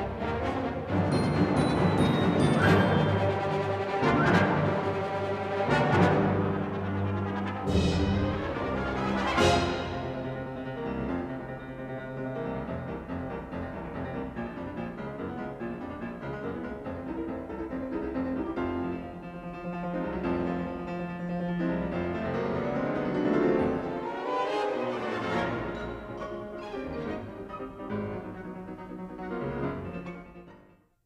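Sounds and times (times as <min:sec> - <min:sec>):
classical keyboard music: 0:00.0 - 0:30.9.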